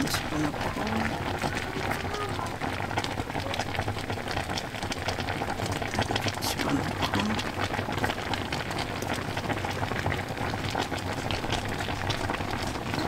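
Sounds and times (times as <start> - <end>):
food bubbling in a pan: 0.0 - 13.0.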